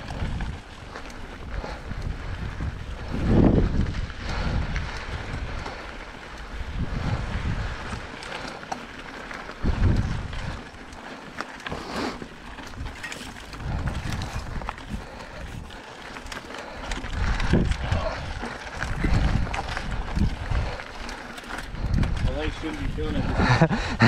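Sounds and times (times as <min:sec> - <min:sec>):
wind gusts on microphone: 0:00.0 - 0:08.2, 0:09.5 - 0:10.8, 0:12.7 - 0:15.8, 0:16.9 - 0:24.0
bike clicks and rattles: 0:00.0 - 0:24.0
bike tyres on dirt trail: 0:00.0 - 0:24.0.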